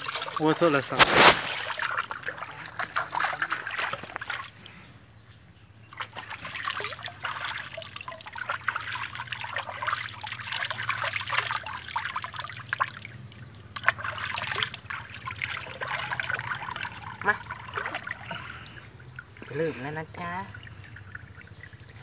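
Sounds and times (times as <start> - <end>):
bath water splashing and trickling: 0.0 - 4.8, 5.8 - 22.0.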